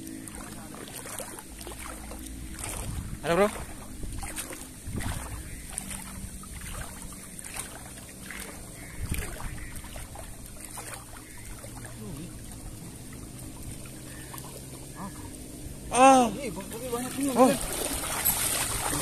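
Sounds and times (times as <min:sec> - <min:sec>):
river water swishing around legs: 0:00.0 - 0:19.0
steady outdoor rush: 0:00.0 - 0:19.0.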